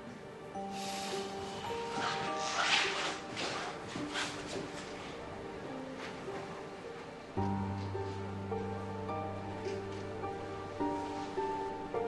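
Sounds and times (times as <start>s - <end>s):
soft hissy swells: 0.5s - 12.0s.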